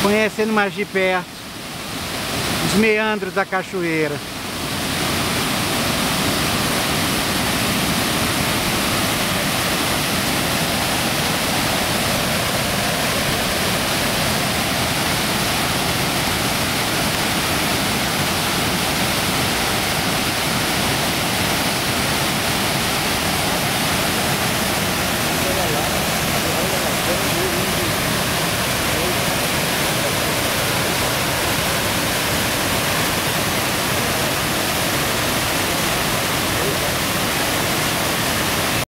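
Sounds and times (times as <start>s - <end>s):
waterfall rushing: 0.0s - 38.8s.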